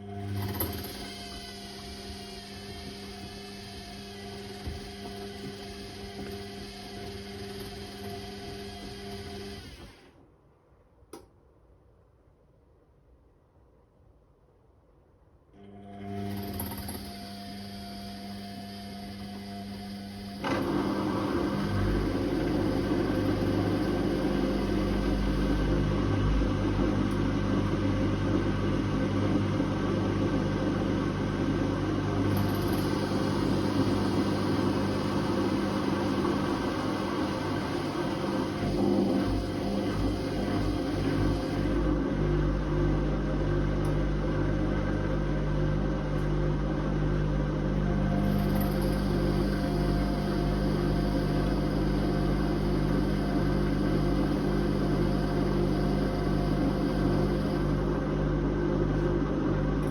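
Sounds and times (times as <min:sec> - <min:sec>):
washing machine motor hum: 0:00.0 - 0:10.1, 0:15.6 - 0:59.9.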